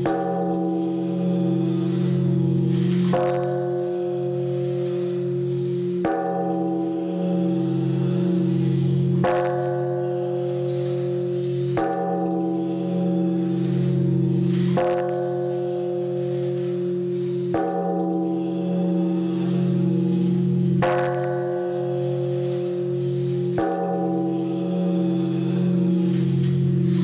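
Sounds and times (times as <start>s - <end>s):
large bell ringing: 0.0s - 27.0s.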